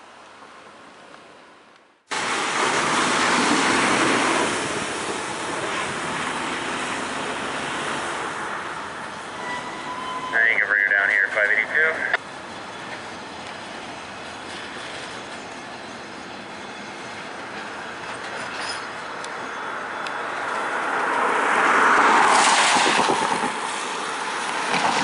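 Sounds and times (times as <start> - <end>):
train wheels rolling on rails: 2.1 - 10.3, 12.0 - 25.0.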